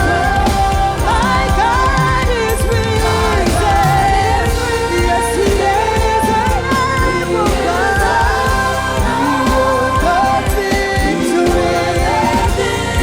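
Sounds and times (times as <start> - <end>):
worship band with singing: 0.0 - 13.0.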